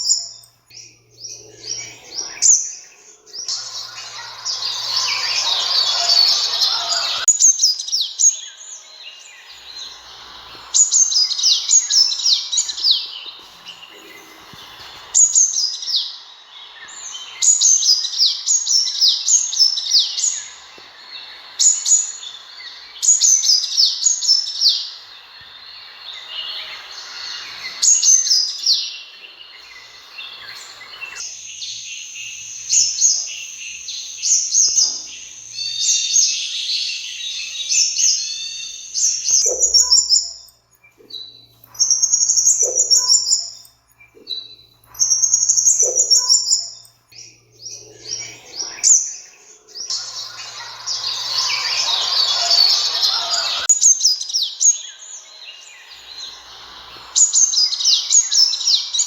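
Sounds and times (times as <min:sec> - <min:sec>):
sunbird chirps and trills: 0:00.0 - 0:59.0.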